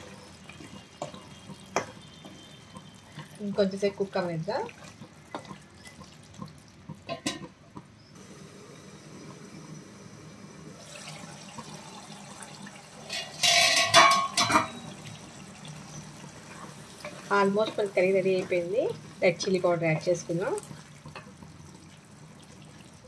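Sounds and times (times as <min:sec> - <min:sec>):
curry bubbling in a pan: 0:00.0 - 0:23.0.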